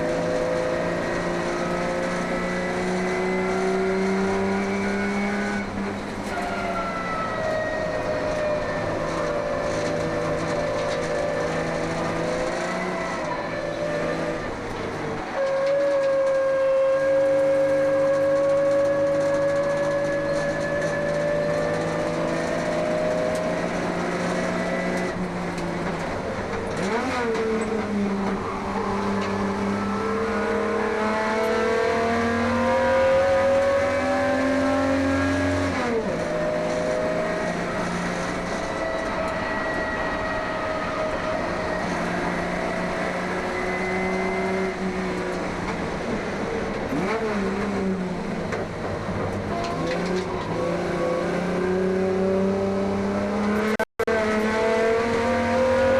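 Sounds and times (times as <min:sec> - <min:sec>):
race car engine revving: 0:00.0 - 0:06.4, 0:08.0 - 0:55.9.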